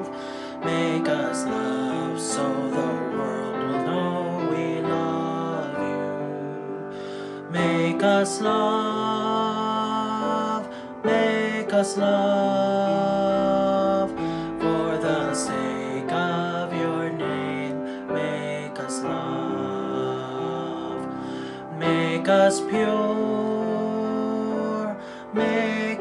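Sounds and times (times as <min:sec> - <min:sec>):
slow worship song: 0:00.0 - 0:26.0.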